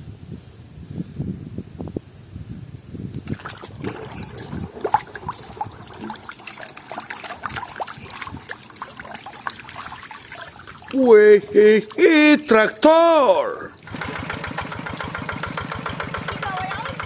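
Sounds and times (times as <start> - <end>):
water sloshing and trickling: 3.2 - 17.0.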